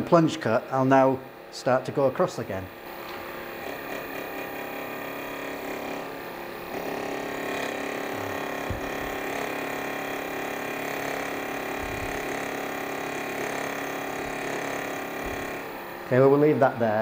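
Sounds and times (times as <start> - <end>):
electric motor whine: 2.5 - 16.8
end mill cutting brass: 2.6 - 16.7.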